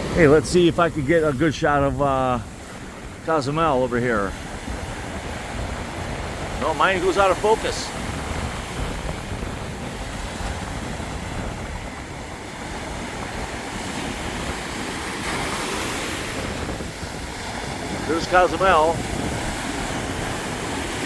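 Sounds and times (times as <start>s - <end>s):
waves breaking on sandy beach: 0.0s - 21.0s
wind rumbling on microphone: 0.0s - 21.0s.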